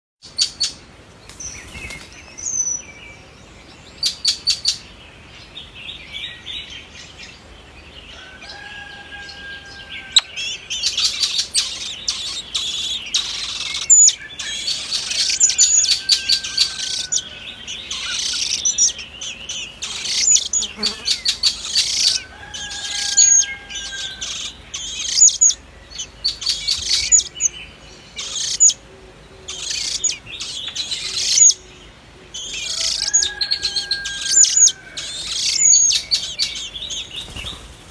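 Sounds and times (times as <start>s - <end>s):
nestlings cheeping and chirping: 1.2s - 37.9s.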